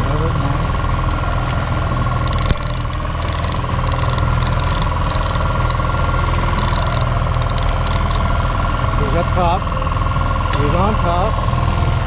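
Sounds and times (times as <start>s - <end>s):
boat engine humming: 0.0s - 12.0s
fishing reel ticking: 0.2s - 11.6s.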